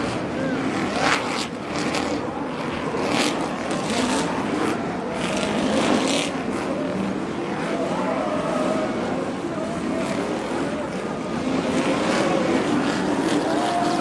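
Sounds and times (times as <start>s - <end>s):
truck engines revving: 0.0s - 14.0s.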